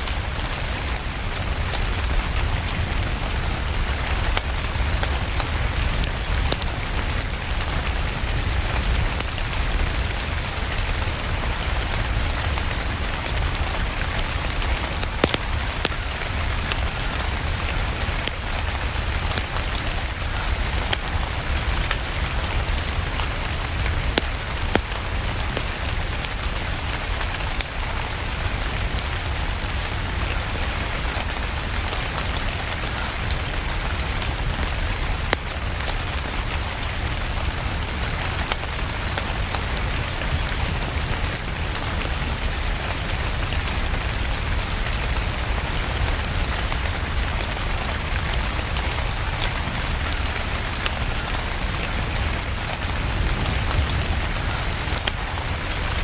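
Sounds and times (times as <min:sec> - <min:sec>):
steady rain falling: 0:00.0 - 0:56.0
wood fire crackling and popping: 0:00.0 - 0:56.0.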